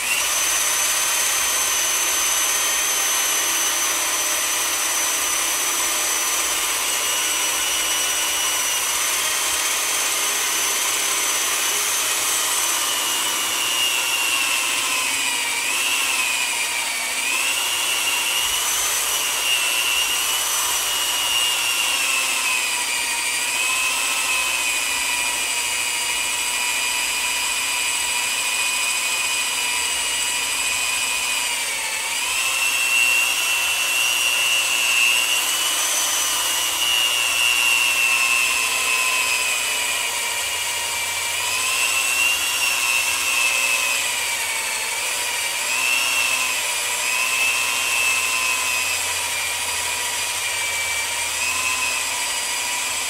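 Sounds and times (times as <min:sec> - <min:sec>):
power drill motor whine: 0:00.0 - 0:53.0.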